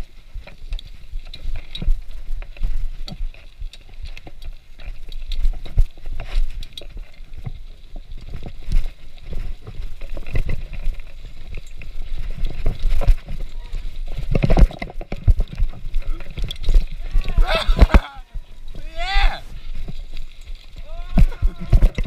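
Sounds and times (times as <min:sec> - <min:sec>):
bicycle rattling on dirt trail: 0:00.0 - 0:22.0.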